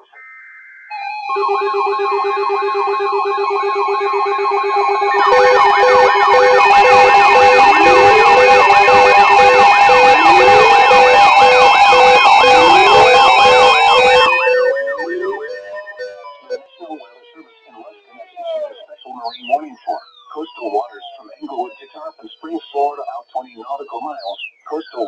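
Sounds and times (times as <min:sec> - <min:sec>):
two-tone attention signal: 0:00.0 - 0:25.0
rising wail sirens: 0:00.9 - 0:25.0
warbling yelp siren: 0:00.9 - 0:25.0
pulsing beep: 0:01.0 - 0:25.0.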